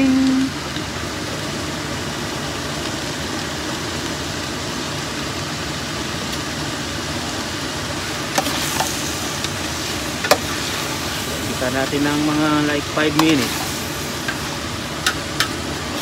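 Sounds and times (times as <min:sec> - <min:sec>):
food sizzling in a pot: 0:00.0 - 0:16.0.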